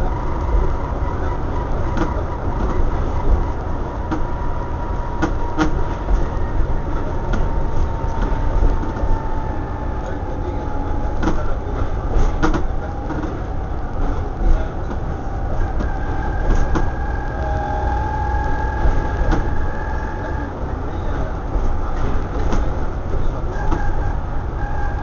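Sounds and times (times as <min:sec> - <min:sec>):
bus diesel engine: 0:00.0 - 0:25.0
road rumble: 0:00.0 - 0:25.0
steady whine: 0:00.0 - 0:25.0.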